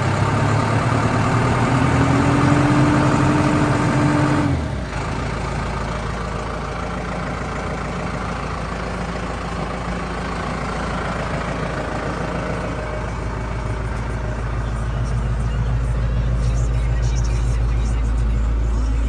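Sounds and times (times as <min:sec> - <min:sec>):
tractor diesel engine: 0:00.0 - 0:19.0.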